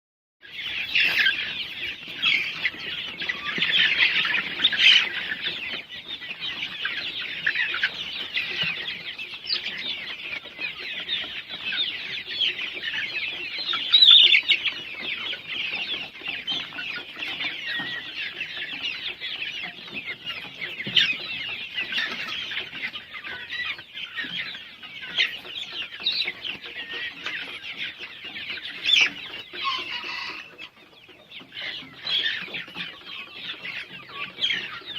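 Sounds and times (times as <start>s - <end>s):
chickens peeping and chirping: 0.4s - 34.9s.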